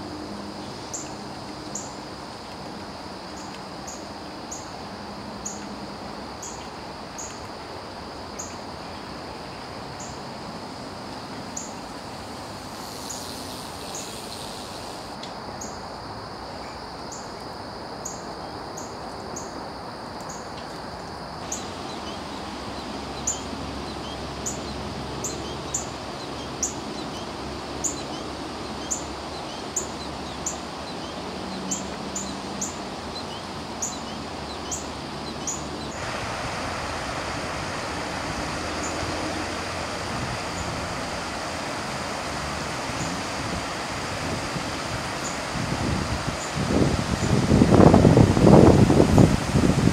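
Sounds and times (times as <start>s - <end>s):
outdoor background hiss: 0.0s - 49.9s.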